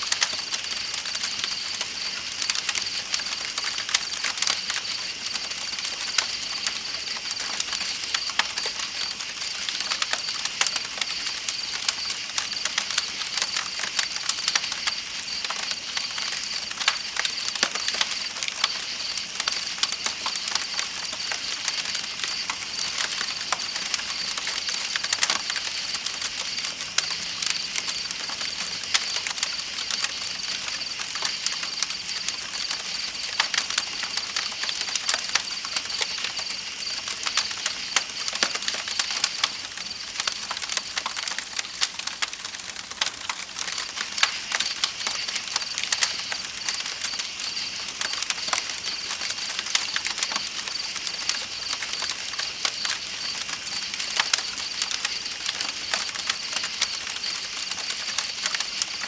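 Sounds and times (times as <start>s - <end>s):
campfire crackling and popping: 0.0s - 59.0s
night insects trilling: 0.0s - 59.0s.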